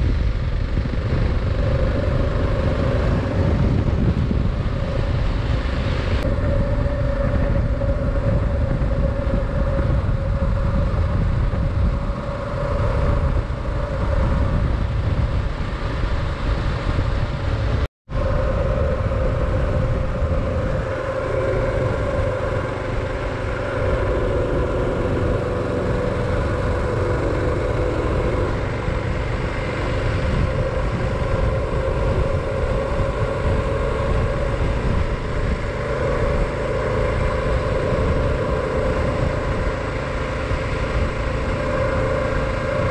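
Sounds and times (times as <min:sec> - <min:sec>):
motorcycle engine cruising: 0:00.0 - 0:42.9
wind buffeting microphone: 0:00.0 - 0:42.9.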